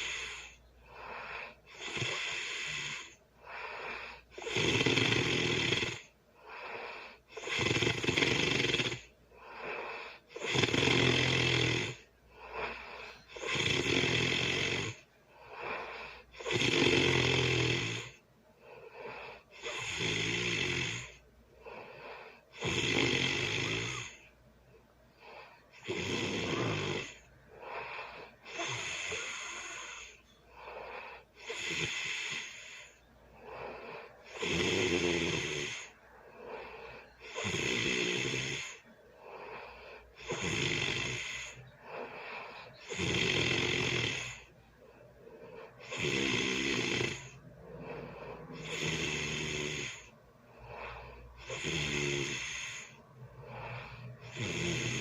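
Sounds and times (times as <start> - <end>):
person snoring loudly: 0.0 - 18.2, 18.9 - 24.3, 25.2 - 44.5, 45.5 - 55.0.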